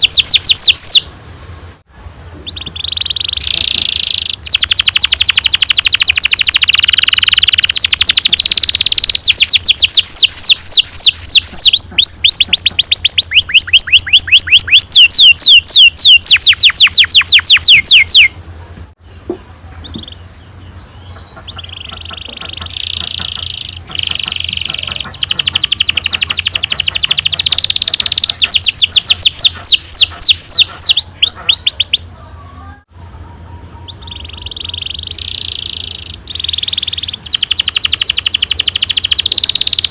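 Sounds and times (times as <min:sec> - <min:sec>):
canary singing trills: 0:00.0 - 0:01.1, 0:02.4 - 0:18.4, 0:19.7 - 0:39.9.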